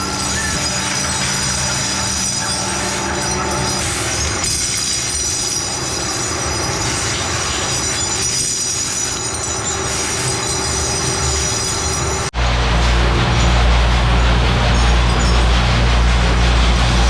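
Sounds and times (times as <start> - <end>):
machine high-pitched metallic whine: 0.0 - 17.0.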